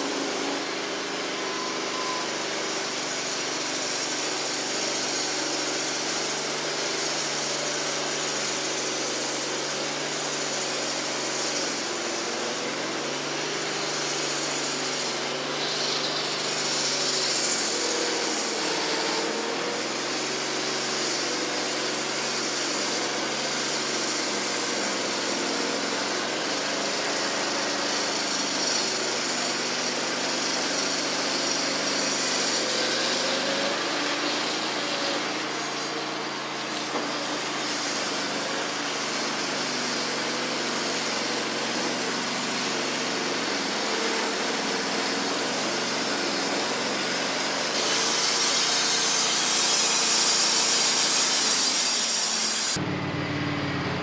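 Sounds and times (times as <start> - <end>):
sawmill engine drone: 0.0 - 54.0
band saw blade hissing in wood: 1.4 - 52.8.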